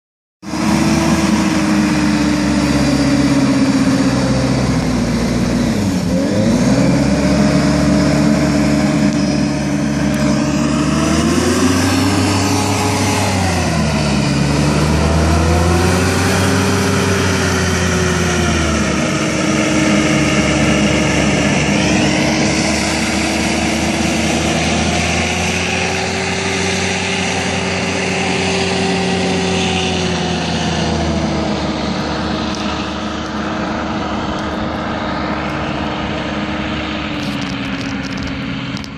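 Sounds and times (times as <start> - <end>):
hovercraft engine and fan: 0.4 - 38.9.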